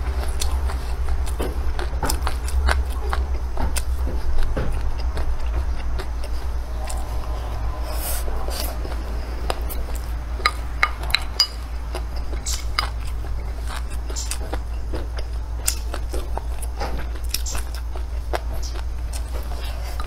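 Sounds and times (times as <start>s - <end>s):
close-up chewing: 0.0s - 20.0s.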